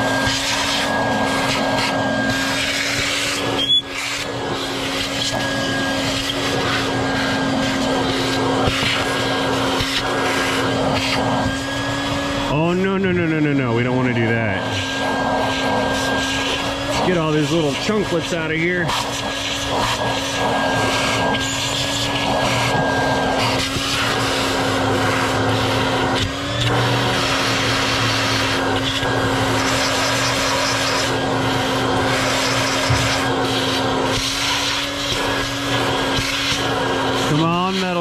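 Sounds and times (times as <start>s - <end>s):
shop vacuum running: 0.0s - 38.0s.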